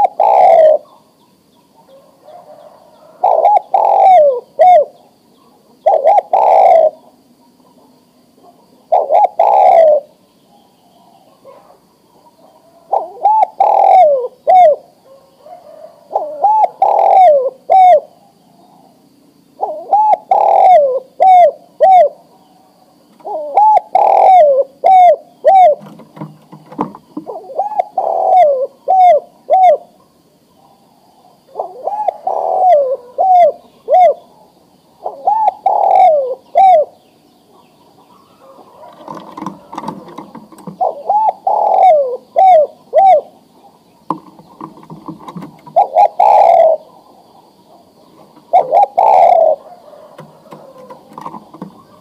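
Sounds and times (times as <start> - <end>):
dove cooing: 0.0 - 52.0.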